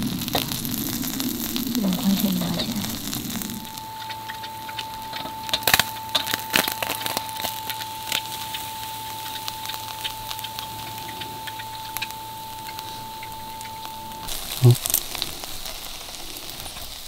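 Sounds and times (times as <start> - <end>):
fire pops and crackles: 0.0 - 17.0.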